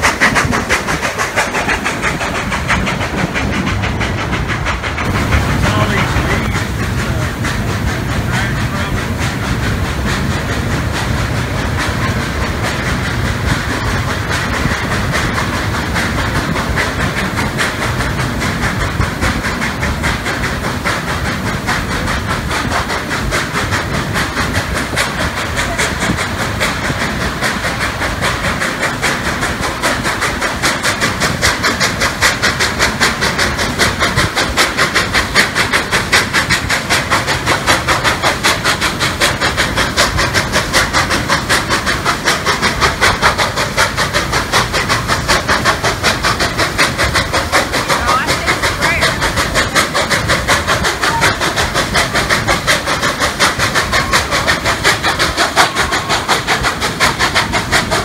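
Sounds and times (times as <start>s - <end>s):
steam hiss: 0.0s - 58.0s
steam locomotive beats: 0.0s - 58.0s
train wheel clatter: 0.0s - 58.0s.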